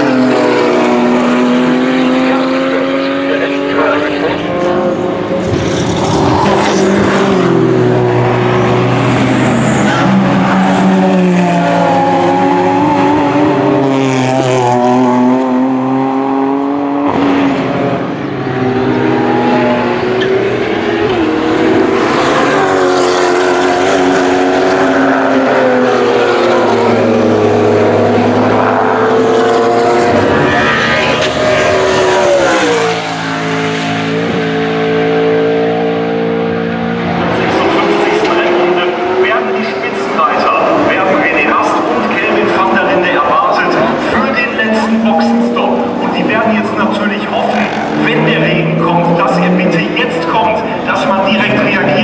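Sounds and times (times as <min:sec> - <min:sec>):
race cars passing at full throttle: 0:00.0 - 0:52.0.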